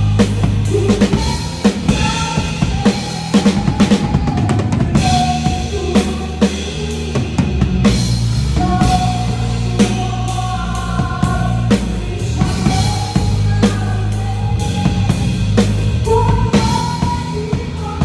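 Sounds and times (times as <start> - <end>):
drum kit playing: 0.0 - 18.0
sustained bass and chords: 0.0 - 18.0.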